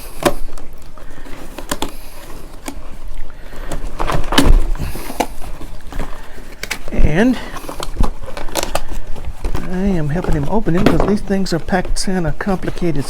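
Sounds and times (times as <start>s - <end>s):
cardboard box being handled: 0.0s - 13.0s.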